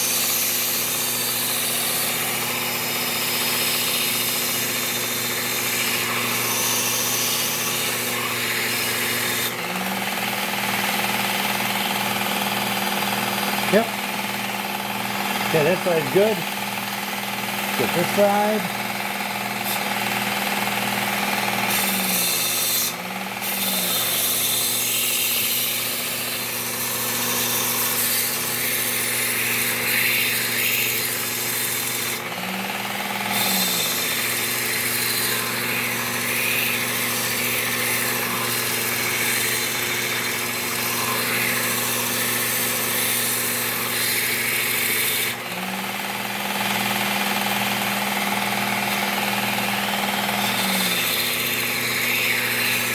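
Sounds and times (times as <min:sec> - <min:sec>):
belt sharpener grinding metal: 0:00.0 - 0:52.9
motor hum: 0:00.0 - 0:52.9.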